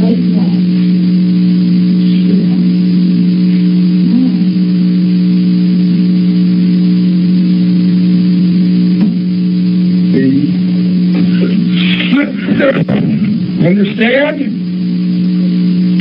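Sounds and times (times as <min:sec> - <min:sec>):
faint tones: 0:00.0 - 0:16.0
loud electrical hum: 0:00.0 - 0:16.0.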